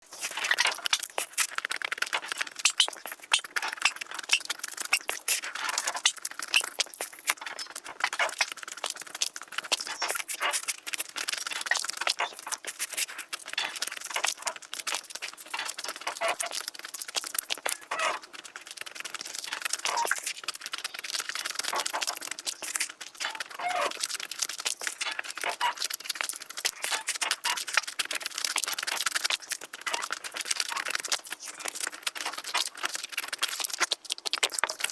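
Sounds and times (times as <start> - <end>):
chewing and crunching: 0.0 - 34.9.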